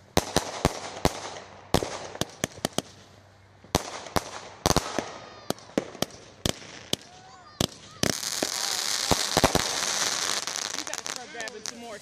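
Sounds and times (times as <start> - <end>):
firework bangs with crackling: 0.0 - 12.0.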